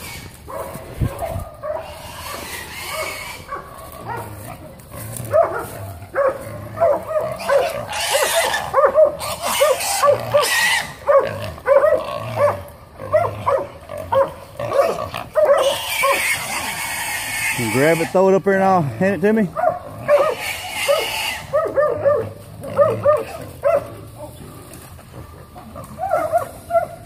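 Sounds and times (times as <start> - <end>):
dogs barking rapidly: 0.0 - 24.4, 25.2 - 27.0.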